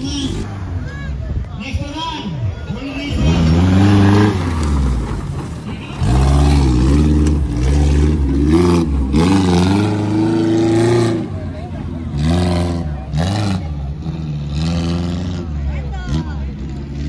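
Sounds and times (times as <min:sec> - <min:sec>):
off-road vehicle engine revving: 0:00.0 - 0:01.1, 0:02.7 - 0:17.0.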